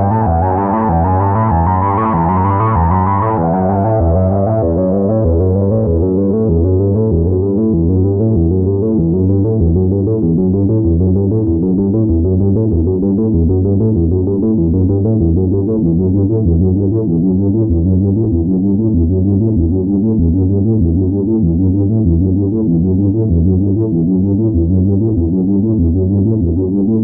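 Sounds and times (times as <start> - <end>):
synthesizer bass sequence: 0.0 - 27.0.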